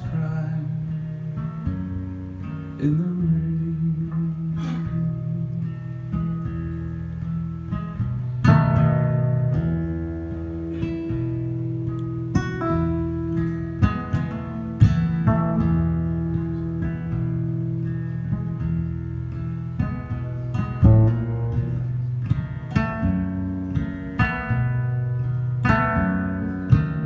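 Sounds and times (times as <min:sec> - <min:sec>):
acoustic guitar country ballad: 0:00.0 - 0:27.0.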